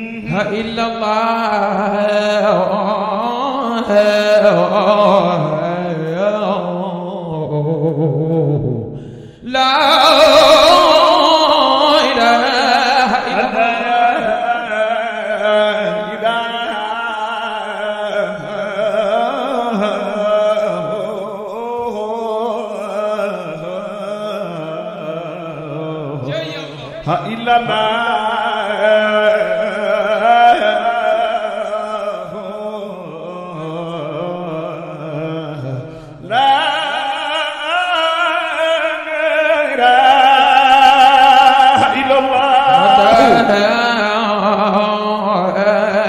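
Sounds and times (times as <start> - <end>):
man chanting: 0.0 - 46.0.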